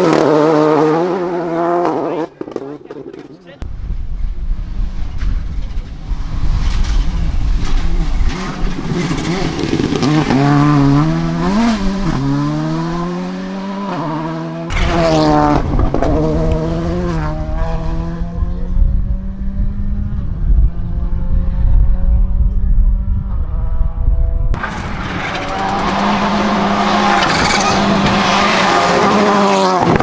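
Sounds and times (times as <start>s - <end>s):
rally car engine at full throttle: 0.0s - 30.0s.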